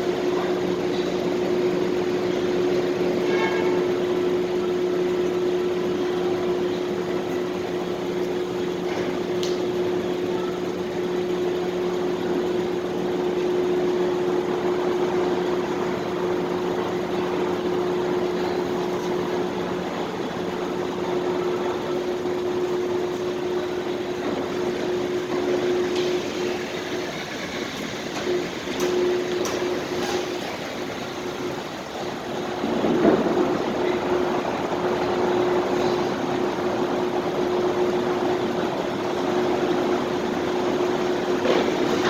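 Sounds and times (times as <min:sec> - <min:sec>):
ventilation fan hum: 0:00.0 - 0:42.0.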